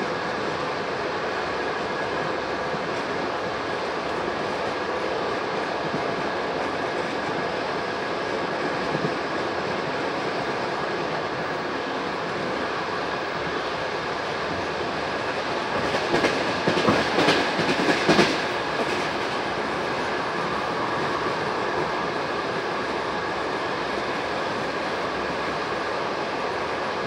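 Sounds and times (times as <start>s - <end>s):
clickety-clack of train wheels: 0.0s - 27.0s
train wheels rumbling on track: 0.0s - 27.0s.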